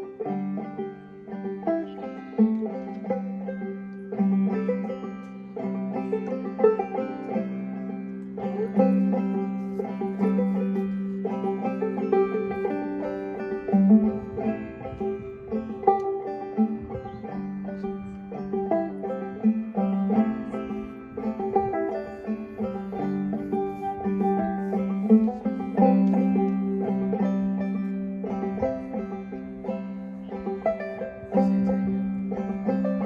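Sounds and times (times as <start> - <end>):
banjo playing: 0.0 - 33.0.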